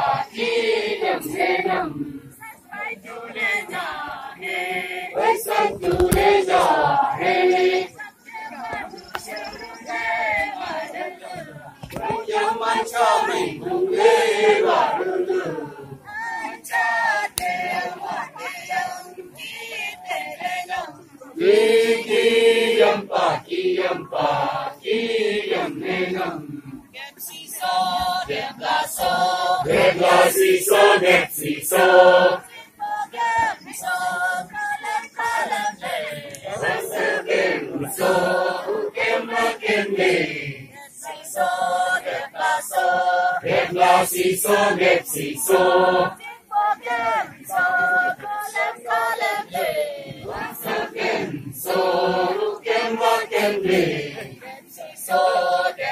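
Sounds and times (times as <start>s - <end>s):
group singing a dance chant: 0.0s - 55.9s.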